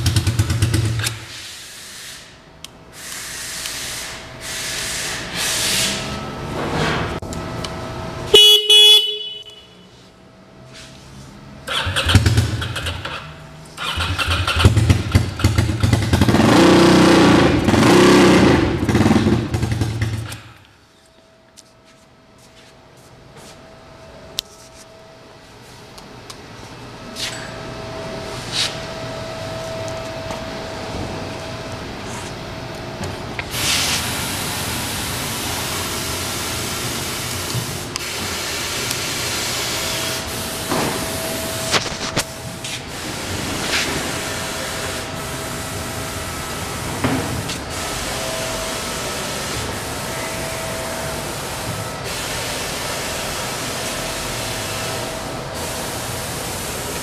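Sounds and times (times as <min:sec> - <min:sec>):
machine running with hum and whine: 0:00.0 - 0:57.0.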